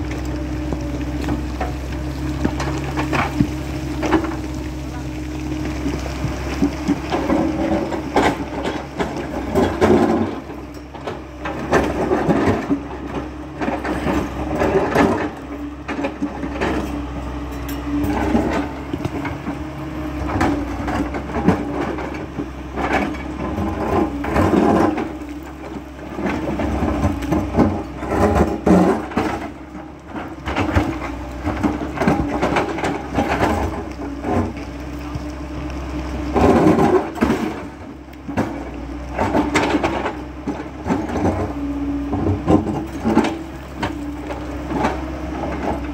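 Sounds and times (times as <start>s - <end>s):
bucket scraping rock: 0.0s - 45.9s
excavator diesel engine: 0.0s - 45.9s.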